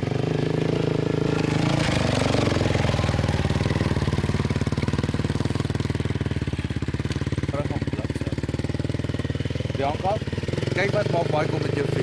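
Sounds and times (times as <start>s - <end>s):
quad bike engine idling: 0.0s - 12.0s.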